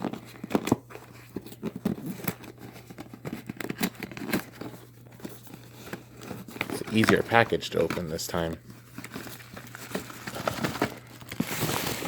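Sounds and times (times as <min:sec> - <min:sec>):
low steady hum: 0:00.0 - 0:11.5
packaging crinkling and tearing: 0:00.0 - 0:12.0.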